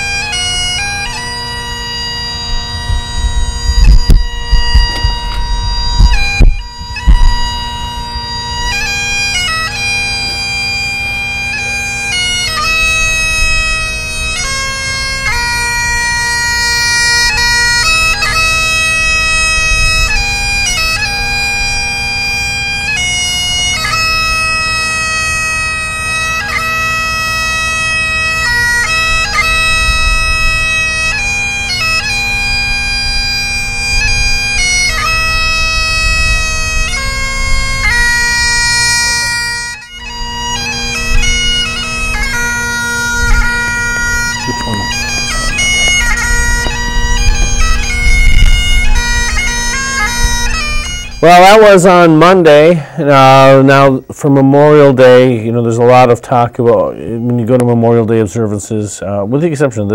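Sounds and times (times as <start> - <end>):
bagpipe chanter melody: 0.0 - 59.9
bagpipe drone: 0.0 - 59.9.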